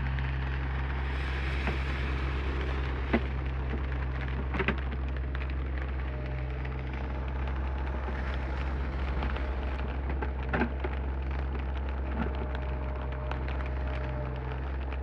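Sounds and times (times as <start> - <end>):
mini excavator engine drone: 0.0 - 15.0
rain ticking: 0.0 - 15.0.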